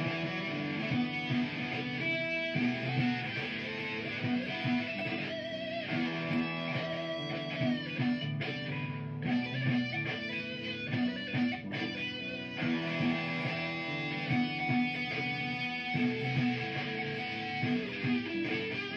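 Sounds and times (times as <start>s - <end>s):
electric guitar lead: 0.0s - 18.9s
looped guitar part: 0.0s - 18.9s.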